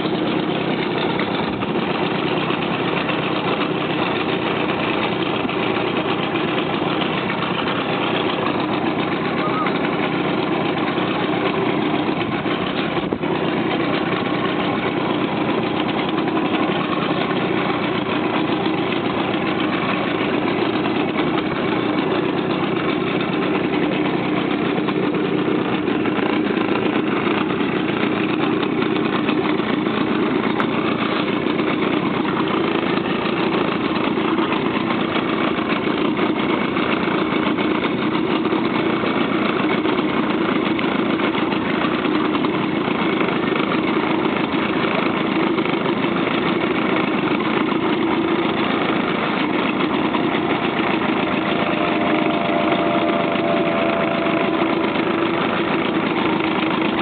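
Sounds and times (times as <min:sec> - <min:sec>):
motorboat engine droning: 0:00.0 - 0:57.0.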